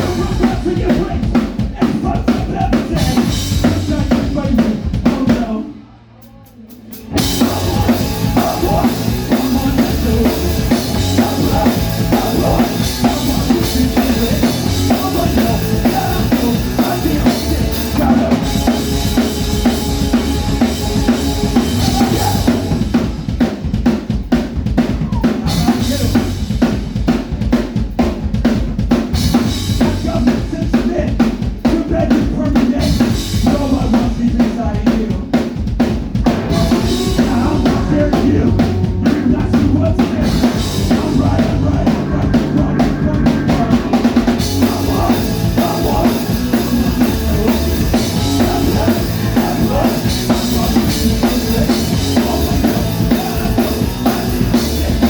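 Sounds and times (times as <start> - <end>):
live rock band playing: 0.0 - 5.6, 6.6 - 55.0
driving drum kit: 0.0 - 55.0.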